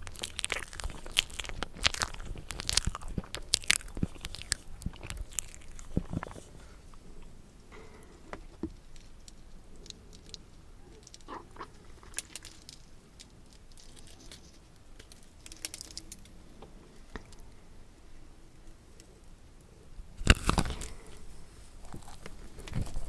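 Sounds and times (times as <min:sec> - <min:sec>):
mouth clicks and chewing: 0:00.0 - 0:16.3, 0:20.2 - 0:23.0.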